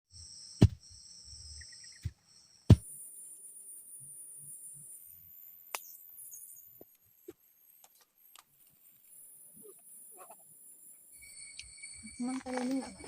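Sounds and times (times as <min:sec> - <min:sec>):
insects shrilling: 0:00.1 - 0:07.5, 0:08.8 - 0:13.0.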